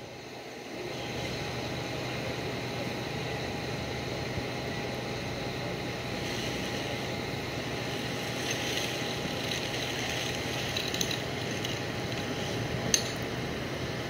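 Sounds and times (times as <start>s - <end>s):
street background hum and hiss: 0.0s - 14.0s.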